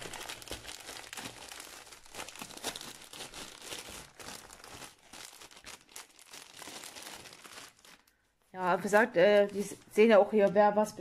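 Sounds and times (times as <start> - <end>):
plastic film crinkling: 0.0 - 10.6.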